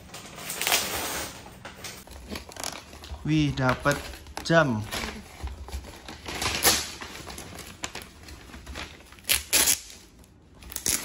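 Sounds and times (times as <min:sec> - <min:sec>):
wrapping paper tearing: 0:02.0 - 0:11.0.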